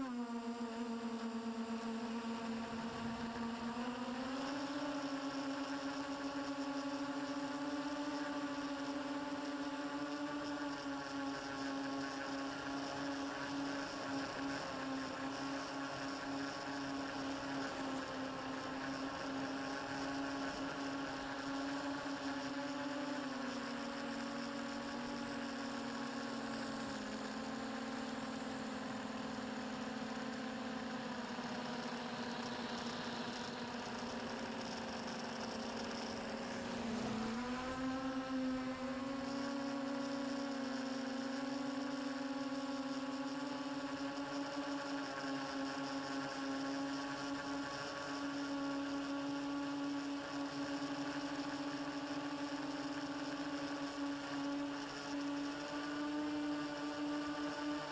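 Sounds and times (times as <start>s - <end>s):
drone motors whining: 0.0s - 57.9s.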